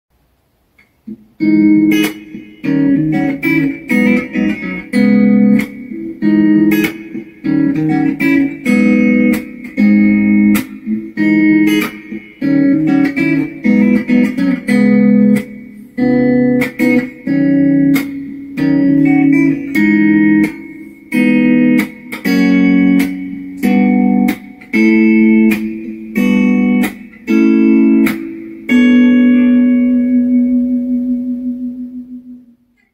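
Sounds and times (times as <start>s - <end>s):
electric guitar chords and melody: 0.8s - 32.9s.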